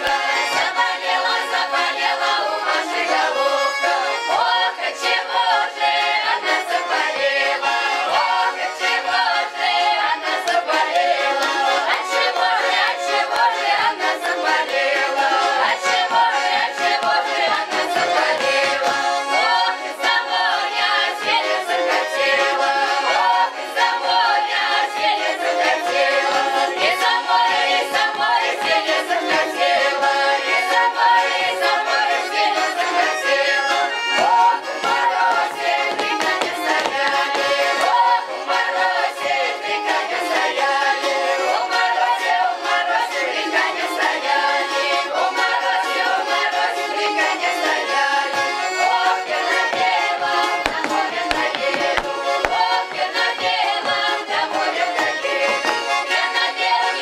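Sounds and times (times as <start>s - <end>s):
accordion: 0.0s - 57.0s
mixed choir singing folk song: 0.0s - 57.0s
strummed balalaika: 0.0s - 57.0s.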